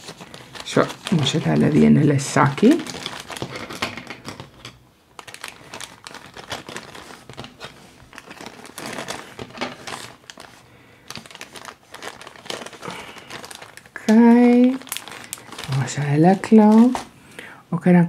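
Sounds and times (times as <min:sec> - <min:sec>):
plastic bag crinkling: 0:00.0 - 0:17.2.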